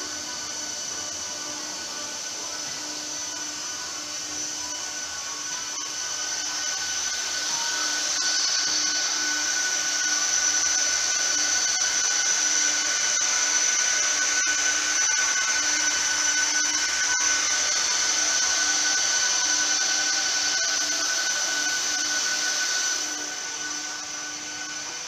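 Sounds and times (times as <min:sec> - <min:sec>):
constant high whine: 0:00.0 - 0:25.0
cooling fans whirring: 0:00.0 - 0:25.0.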